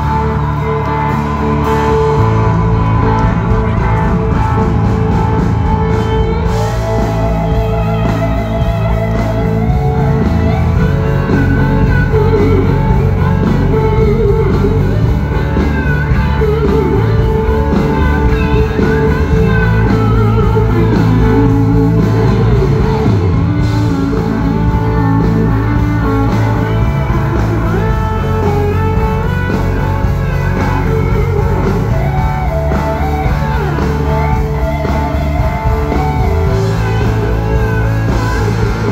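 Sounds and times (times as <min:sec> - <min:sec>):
live country-rock band playing: 0:00.0 - 0:38.9.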